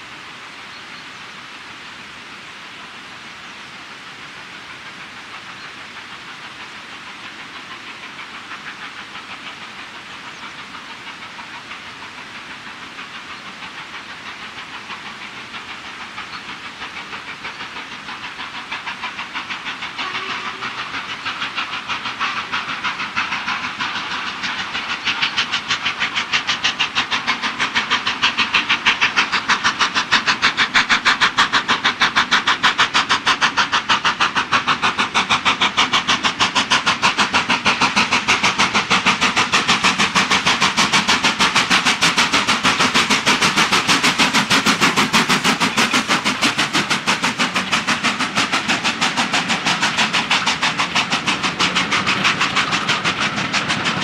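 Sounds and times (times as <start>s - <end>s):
steam locomotive exhaust beats: 0.0s - 54.0s.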